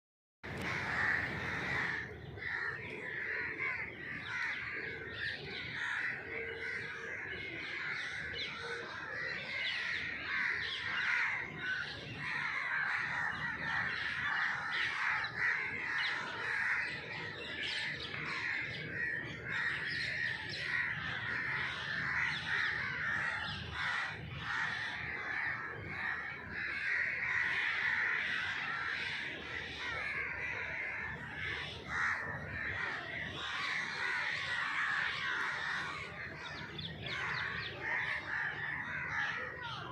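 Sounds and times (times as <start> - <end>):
crows cawing: 0.5 - 39.9.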